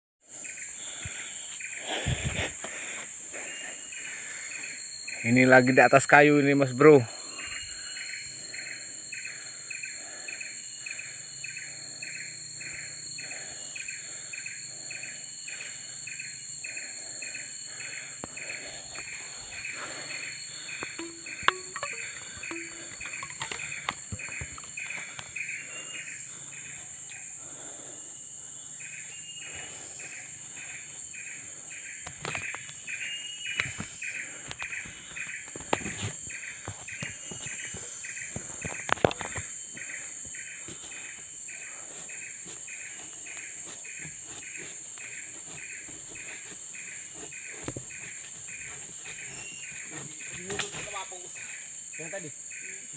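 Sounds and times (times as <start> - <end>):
insects shrilling drone: 0.2 - 52.9
rhythmic insect chirping: 0.2 - 52.9
faint bird calls: 7.1 - 51.6.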